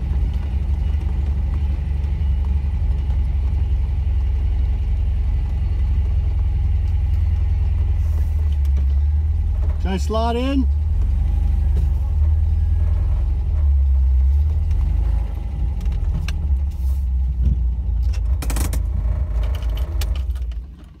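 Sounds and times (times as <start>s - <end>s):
car engine rumbling and idling: 0.0s - 21.0s.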